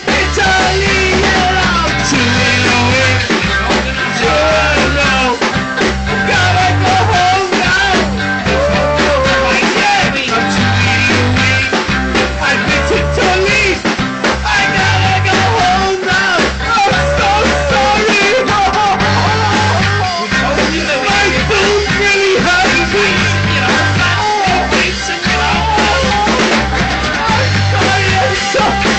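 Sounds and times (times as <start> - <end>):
bass guitar: 0.0 - 28.9
drums: 0.0 - 28.9
electric guitar: 0.0 - 28.9
rock band playing: 0.0 - 28.9.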